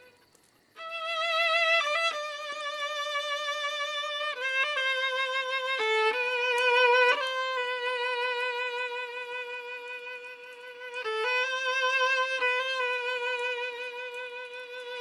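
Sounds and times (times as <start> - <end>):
violin slow melody: 0.0 - 15.0.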